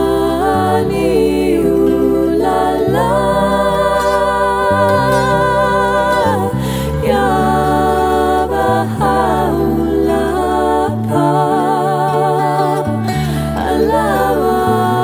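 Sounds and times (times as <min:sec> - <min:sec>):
acoustic guitar: 0:00.0 - 0:15.0
two women singing: 0:00.0 - 0:15.0.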